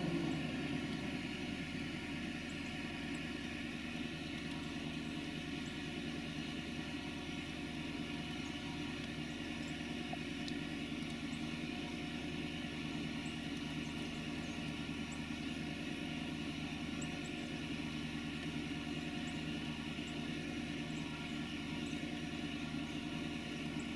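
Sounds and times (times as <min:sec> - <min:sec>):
steady mechanical drone: 0:00.0 - 0:23.9.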